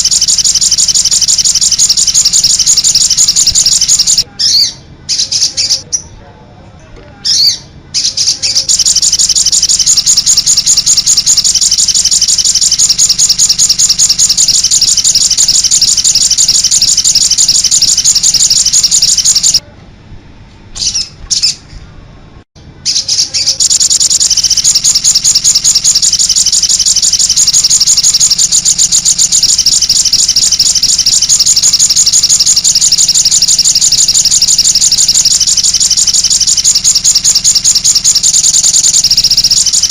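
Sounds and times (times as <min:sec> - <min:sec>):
songbird chattering trill: 0:00.0 - 0:06.1, 0:07.3 - 0:19.6, 0:22.8 - 0:39.9.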